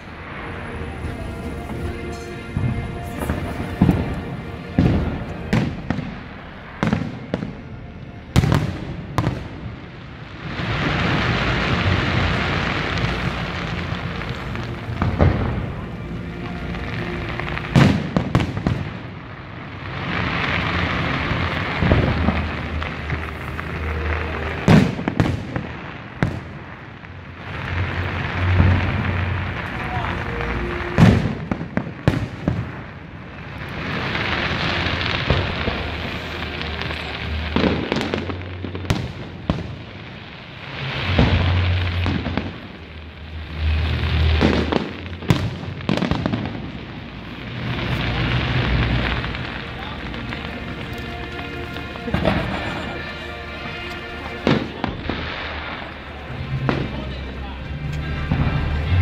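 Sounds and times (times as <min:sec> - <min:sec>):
dense firework crackling: 0:00.0 - 0:59.0.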